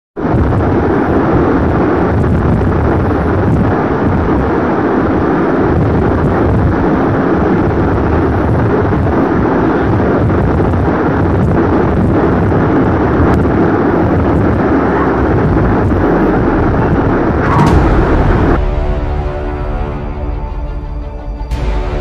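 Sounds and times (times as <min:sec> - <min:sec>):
deep aircraft engine drone: 0:00.2 - 0:22.0.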